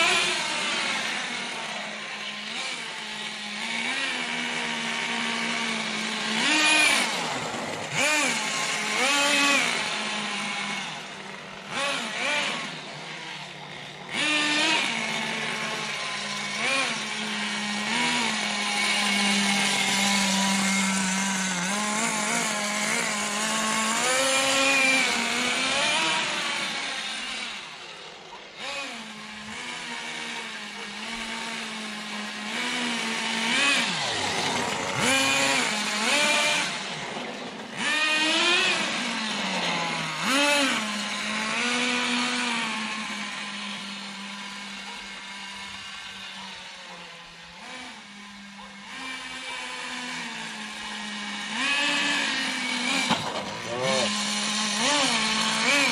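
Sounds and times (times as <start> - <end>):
model engine idling and revving: 0.0 - 55.9.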